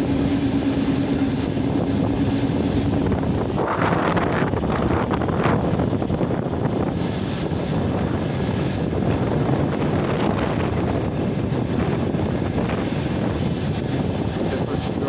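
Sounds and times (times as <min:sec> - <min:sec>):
train wheels rumbling on rails: 0:00.0 - 0:15.0
wind on microphone: 0:00.0 - 0:15.0.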